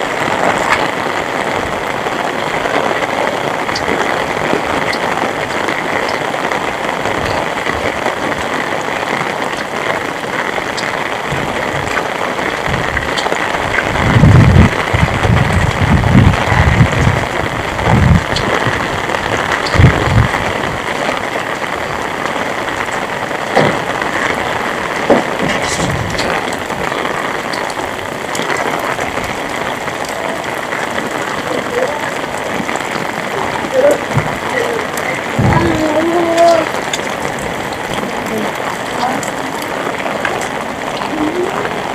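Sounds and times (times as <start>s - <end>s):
heavy rain falling: 0.0s - 41.9s
loud choppy low rumbling: 0.0s - 41.9s.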